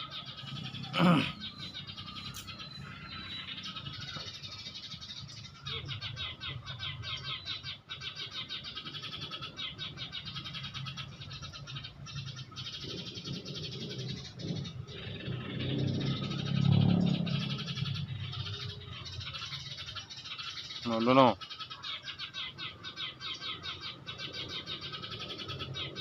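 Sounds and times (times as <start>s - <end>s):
small birds chattering: 0.0s - 26.0s.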